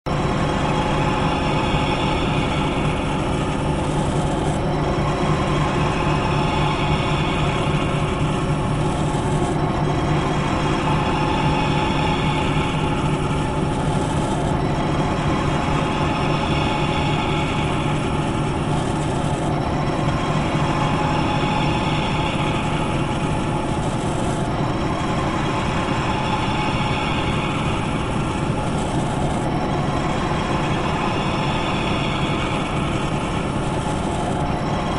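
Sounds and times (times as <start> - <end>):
machinery humming: 0.1 - 34.9.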